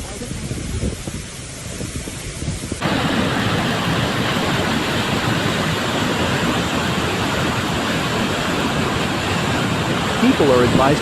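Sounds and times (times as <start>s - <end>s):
floodwater rushing: 1.3s - 11.0s.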